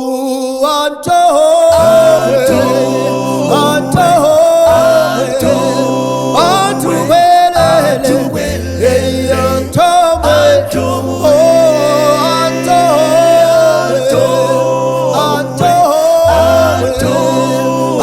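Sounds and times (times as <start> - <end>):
vocal group singing in harmony: 0.0 - 18.0.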